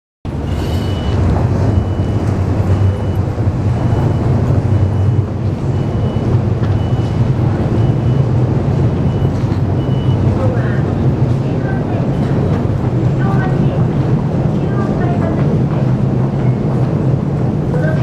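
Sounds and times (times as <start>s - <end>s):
low rumble: 0.3s - 18.0s.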